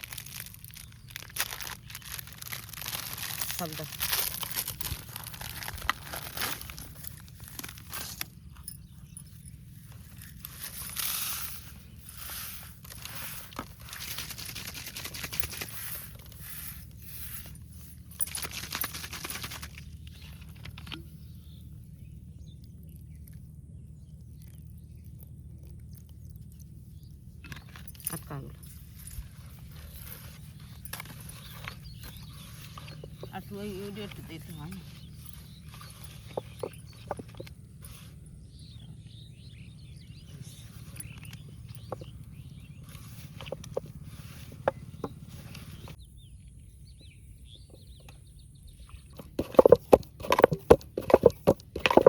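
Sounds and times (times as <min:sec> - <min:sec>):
rustling handling noises: 0:00.0 - 0:21.4, 0:26.4 - 0:39.2, 0:40.2 - 0:46.0, 0:49.1 - 0:52.0
steady low hum: 0:00.0 - 0:52.0.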